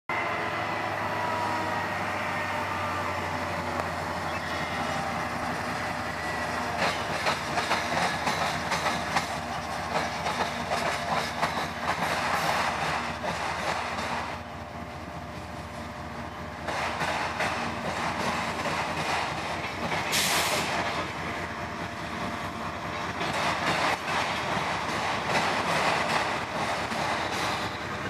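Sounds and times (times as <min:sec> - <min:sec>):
diesel locomotive engine running: 0:00.1 - 0:28.0
train wheels clicking over rail joints: 0:03.3 - 0:28.0.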